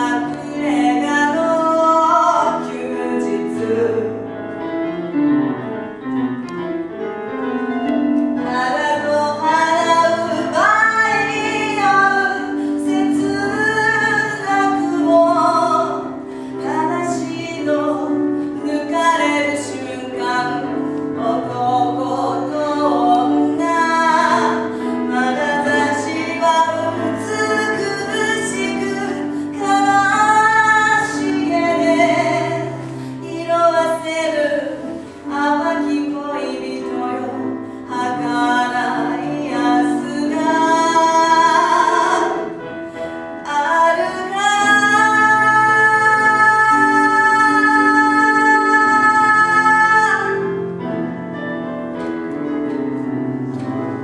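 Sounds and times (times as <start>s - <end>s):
woman singing: 0.0s - 4.2s, 8.4s - 42.7s, 43.4s - 50.6s
digital piano accompaniment: 0.0s - 54.0s.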